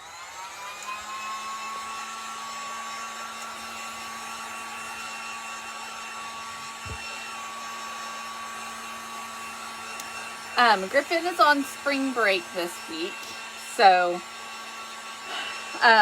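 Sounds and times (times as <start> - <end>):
hot-air blower whine: 0.0 - 16.0.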